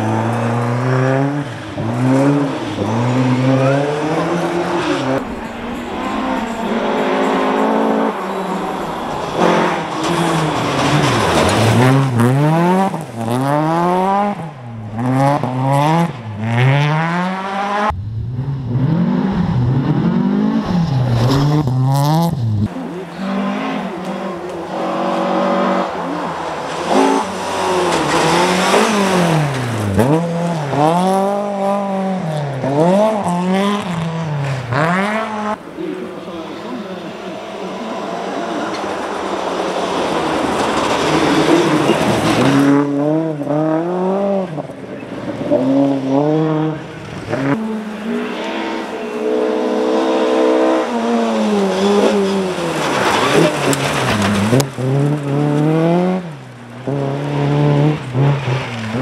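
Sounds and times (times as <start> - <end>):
rally car engines at full throttle: 0.0 - 59.0.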